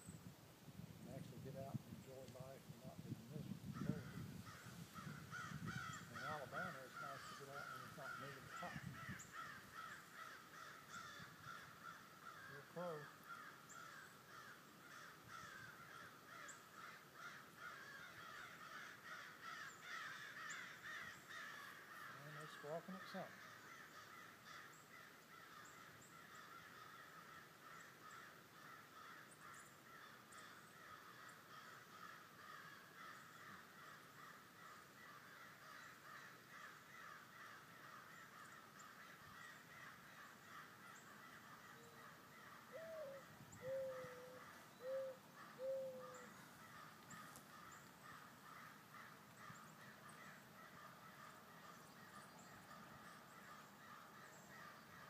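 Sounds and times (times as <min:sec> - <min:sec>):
faint chirring chorus: 0:03.4 - 0:55.0
bird calling: 0:03.8 - 0:55.0.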